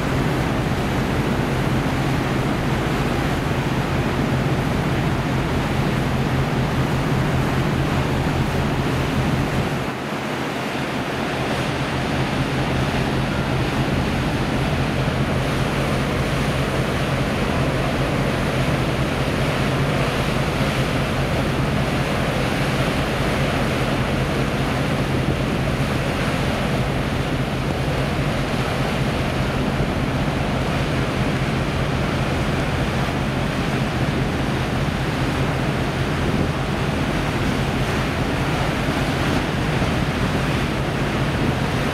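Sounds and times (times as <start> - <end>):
churning propeller wash: 0.0 - 41.9
ship engines humming: 0.0 - 41.9
wind buffeting microphone: 0.0 - 41.9.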